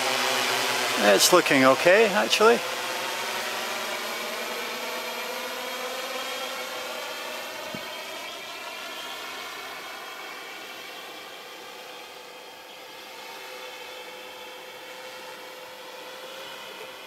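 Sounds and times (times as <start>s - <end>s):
quadcopter propellers humming: 0.0s - 17.0s.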